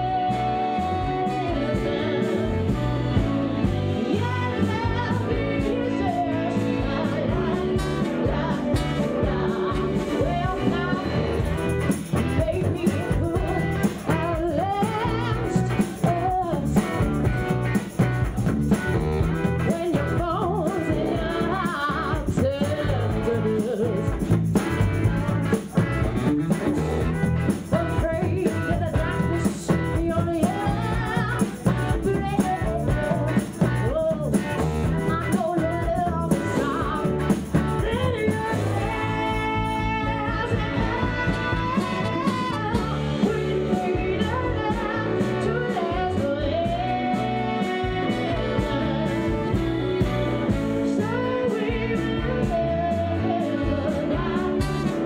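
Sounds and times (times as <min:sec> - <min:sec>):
drum kit: 0:00.0 - 0:55.0
electric guitar: 0:00.0 - 0:55.0
woman singing lead: 0:00.0 - 0:55.0.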